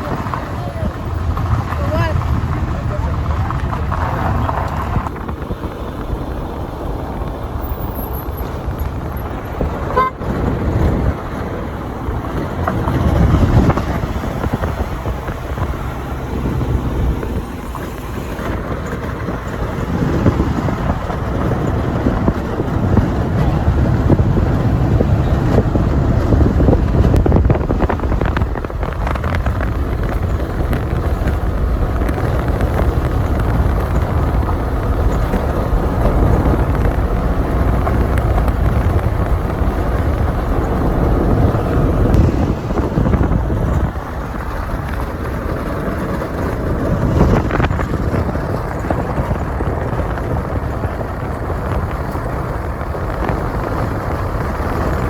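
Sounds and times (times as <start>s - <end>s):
vehicle engine and road rumble: 0.0s - 55.0s
wind buffeting microphone: 0.0s - 55.0s.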